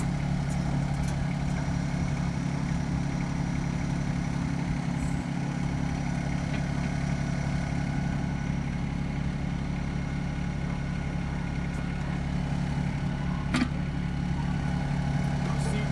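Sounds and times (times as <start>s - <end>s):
tractor diesel engine idling: 0.0s - 15.9s.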